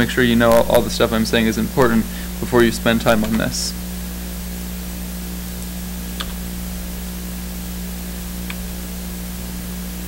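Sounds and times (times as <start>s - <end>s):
electrical hum and hiss: 0.0s - 10.0s.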